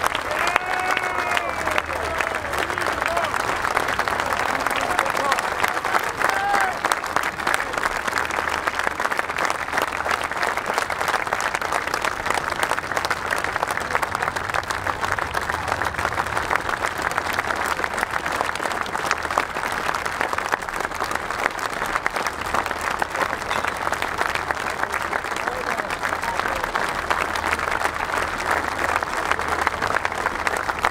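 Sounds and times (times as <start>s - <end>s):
large crowd applauding: 0.0s - 30.9s.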